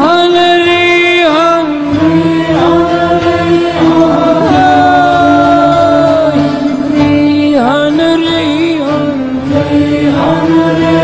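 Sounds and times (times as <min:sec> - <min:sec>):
low musical accompaniment: 0:00.0 - 0:11.0.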